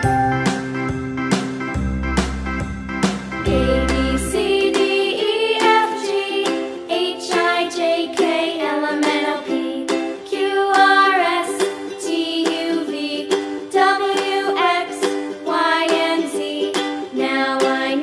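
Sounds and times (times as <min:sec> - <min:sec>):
plucked string instrument tune: 0:00.0 - 0:18.0.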